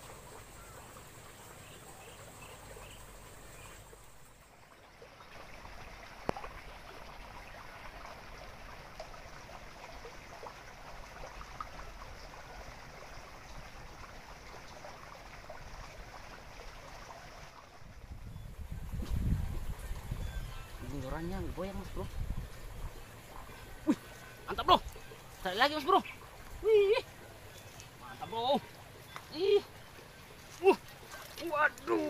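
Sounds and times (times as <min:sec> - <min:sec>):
stream water babbling: 0:00.0 - 0:32.0.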